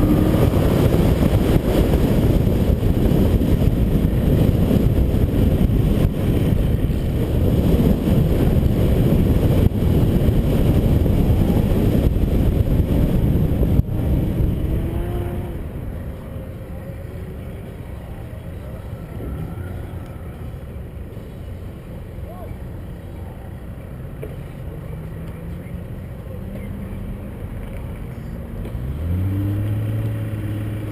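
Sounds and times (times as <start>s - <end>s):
truck engine: 0.0s - 30.9s
wind and road noise: 0.0s - 30.9s.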